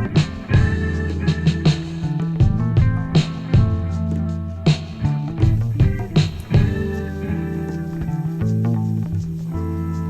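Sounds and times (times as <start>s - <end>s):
drum beat: 0.0s - 9.3s
instrumental music with guitar: 0.0s - 10.0s.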